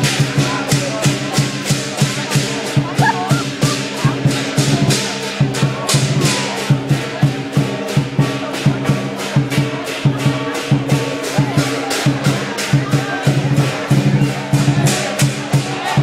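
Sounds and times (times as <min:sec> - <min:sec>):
crashing cymbals: 0:00.0 - 0:16.0
drum beating: 0:00.0 - 0:16.0.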